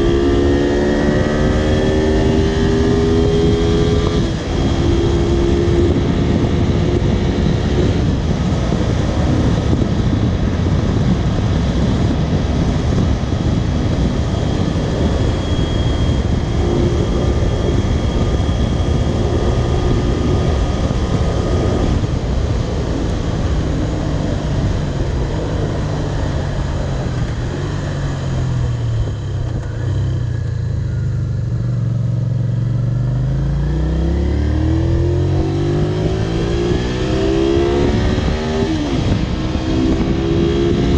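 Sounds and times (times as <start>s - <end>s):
wind rush: 0.0s - 32.0s, 33.2s - 40.9s
motorcycle engine running: 0.0s - 40.9s.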